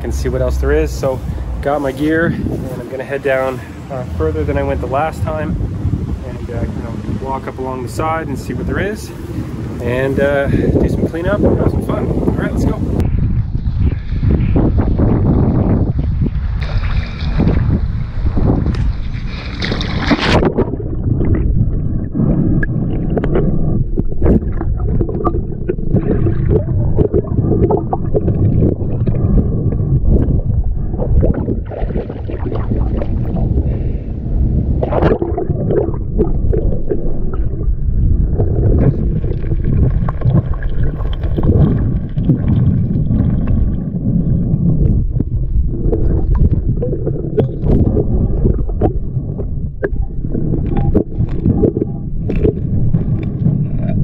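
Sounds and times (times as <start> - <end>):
underwater churning and gurgling: 2.4 - 54.0.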